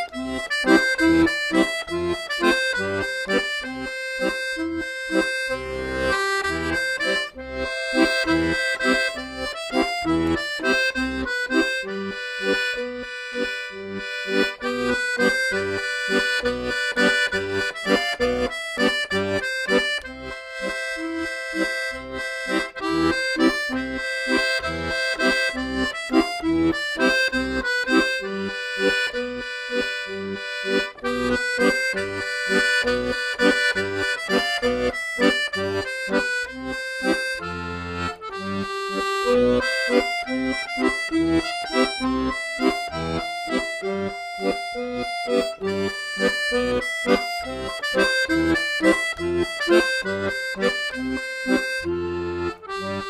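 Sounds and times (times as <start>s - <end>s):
accordion folk music: 0.0s - 53.0s.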